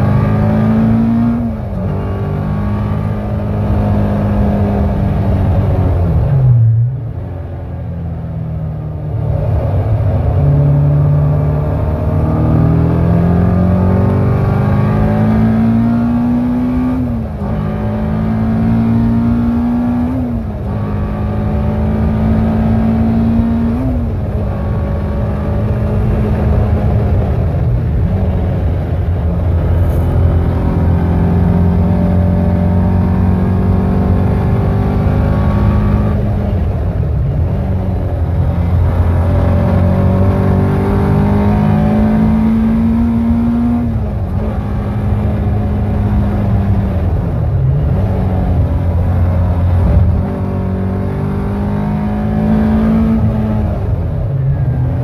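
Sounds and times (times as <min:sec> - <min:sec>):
car engine revving through gears: 0:00.0 - 0:07.2, 0:08.3 - 0:55.0.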